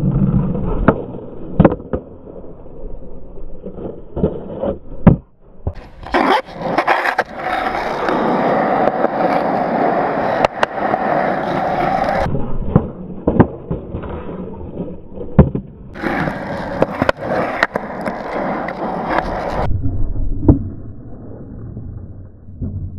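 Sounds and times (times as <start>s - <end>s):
skateboard wheels rolling on concrete: 0.0s - 19.7s.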